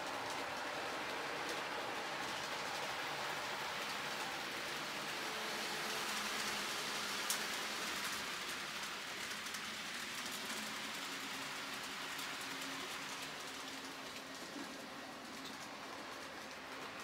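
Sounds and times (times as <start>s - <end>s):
model train wheels and motor hiss: 0.0s - 17.0s.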